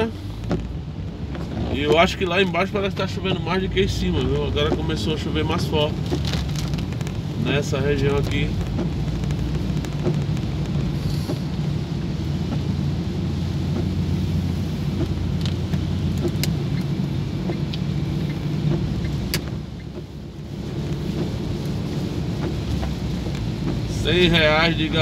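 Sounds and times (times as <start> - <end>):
engine and tyres rumbling: 0.0 - 25.0
rain on windshield: 0.0 - 25.0.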